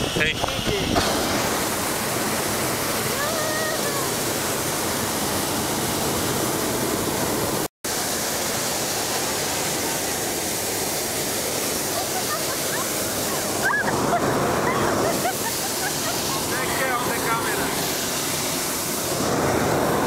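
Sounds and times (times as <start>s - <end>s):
propane burner roaring: 0.0s - 20.0s.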